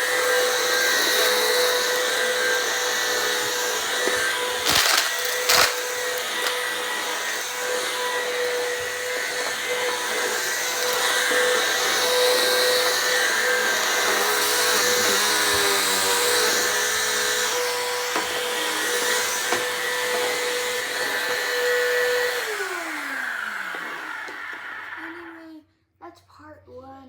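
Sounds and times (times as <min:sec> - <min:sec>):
vacuum cleaner running: 0:00.0 - 0:25.5.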